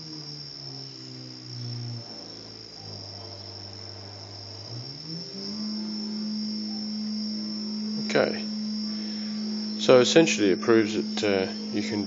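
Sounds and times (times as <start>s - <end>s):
electric motor whine: 0.0s - 12.0s
faint high-pitched whine: 0.0s - 12.0s.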